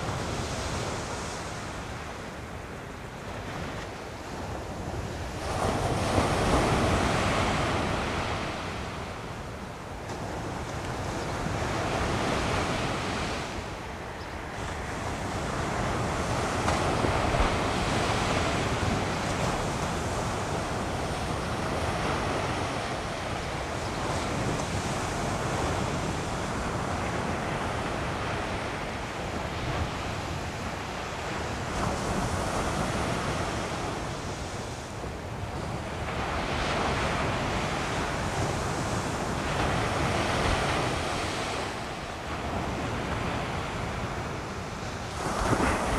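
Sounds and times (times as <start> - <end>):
ocean waves breaking on sand: 0.0 - 45.9.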